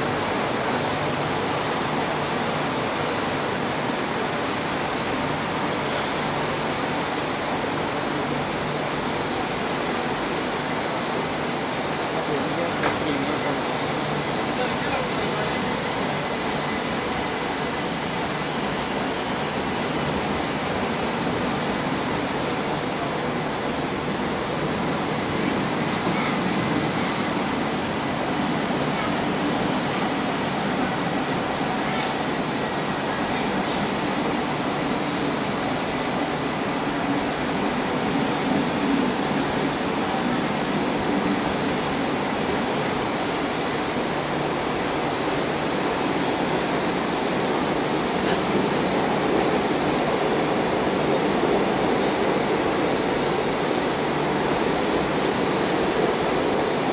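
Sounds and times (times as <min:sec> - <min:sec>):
train wheels on rails: 0:00.0 - 0:56.9.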